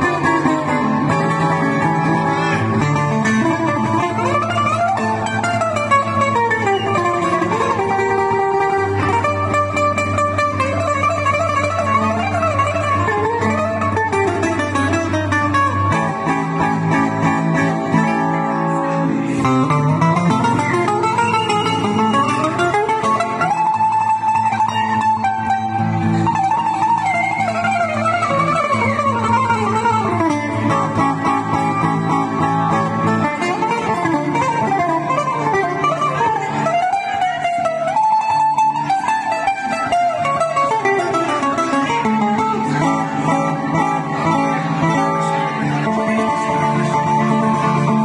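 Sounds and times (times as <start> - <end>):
acoustic guitar chords: 0.0 - 48.0
bouzouki melody: 0.0 - 48.0.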